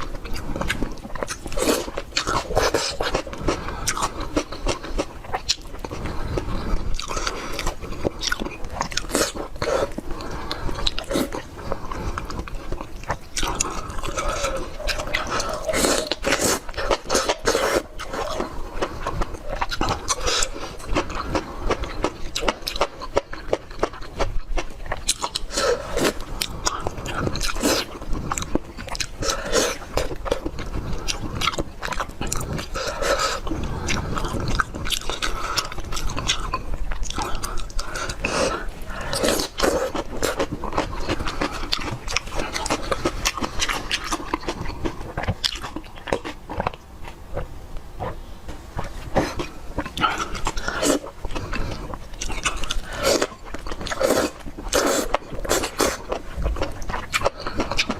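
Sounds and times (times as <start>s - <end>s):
person chewing food: 0.0s - 57.9s.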